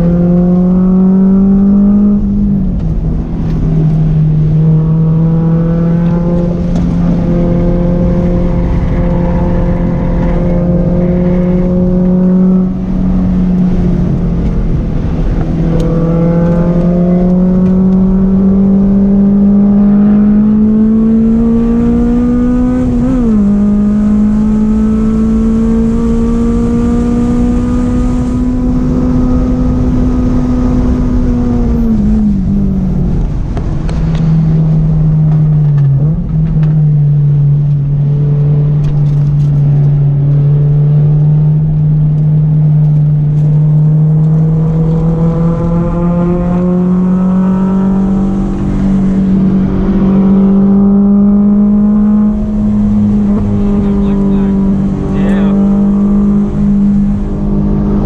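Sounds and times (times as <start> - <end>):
car engine revving: 0.0 - 58.0
road and wind rumble: 0.0 - 58.0.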